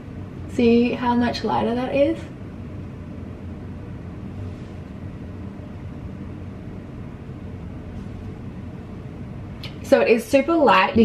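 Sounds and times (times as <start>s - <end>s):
room background hum: 0.0s - 11.0s.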